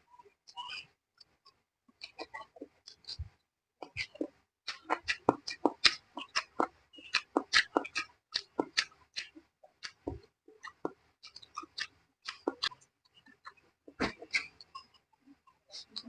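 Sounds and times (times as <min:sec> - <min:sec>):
person chewing and lip smacking: 0:00.4 - 0:16.0.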